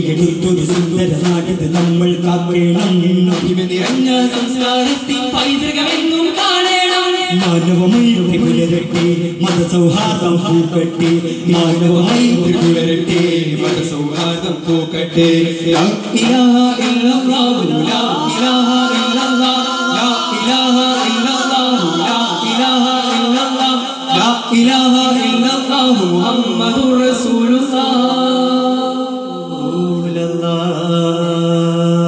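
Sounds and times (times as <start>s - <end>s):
frame drums struck: 0.0s - 25.7s
voices singing in unison: 2.8s - 32.0s.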